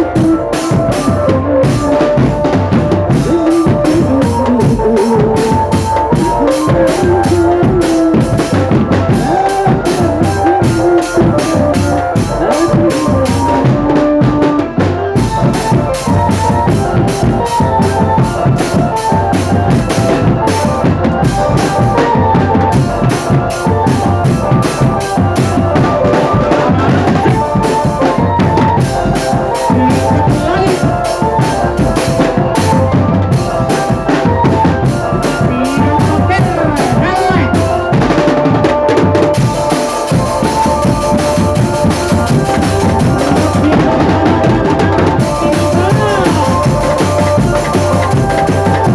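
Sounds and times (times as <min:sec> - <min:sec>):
held melody: 0:00.0 - 0:48.9
snare and bass drums: 0:00.0 - 0:48.9.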